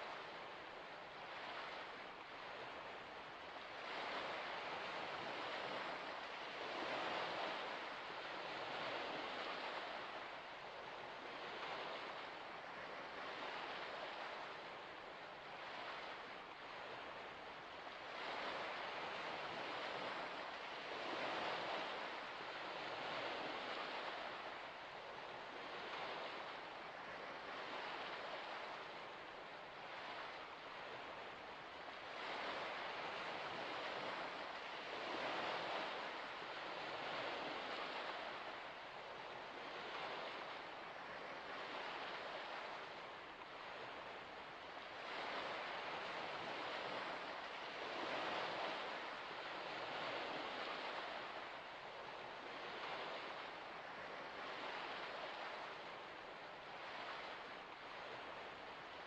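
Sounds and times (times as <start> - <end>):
gentle waves washing in: 0.0 - 59.0.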